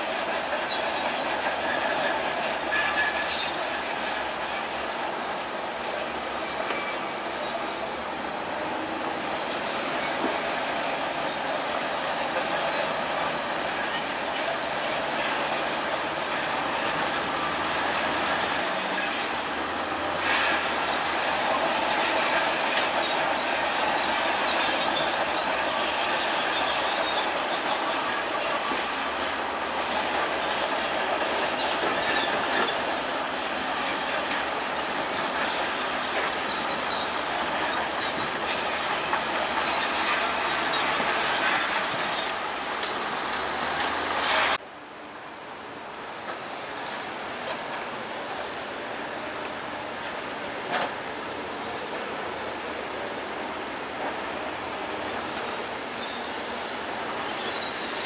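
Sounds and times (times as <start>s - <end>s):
crawler tracks squealing and clanking: 0.0s - 44.6s, 45.8s - 58.0s
bulldozer engine: 0.0s - 58.0s.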